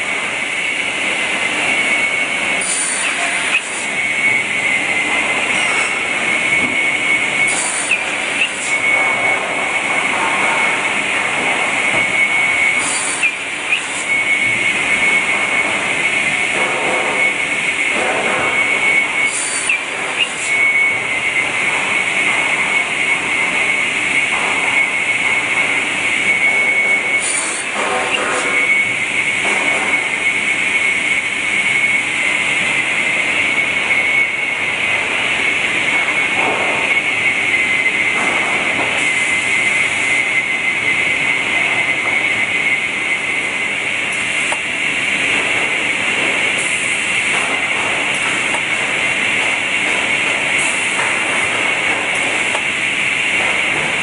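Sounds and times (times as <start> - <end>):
sawing machine whine: 0.0 - 54.0.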